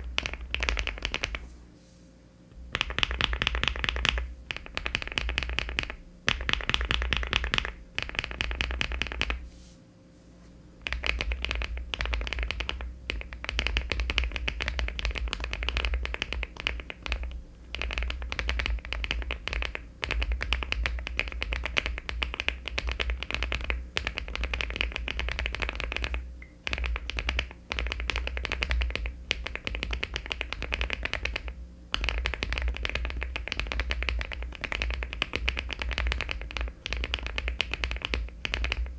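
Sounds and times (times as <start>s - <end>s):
fast typing on mechanical keyboard: 0.0s - 1.4s, 2.7s - 9.4s, 10.8s - 38.9s.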